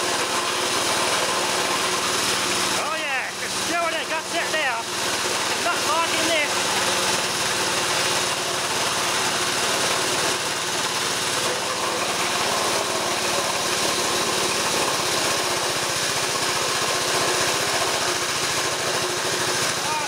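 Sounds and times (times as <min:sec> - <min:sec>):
compressor pumping air: 0:00.0 - 0:20.0
petrol engine running steadily: 0:00.0 - 0:20.0.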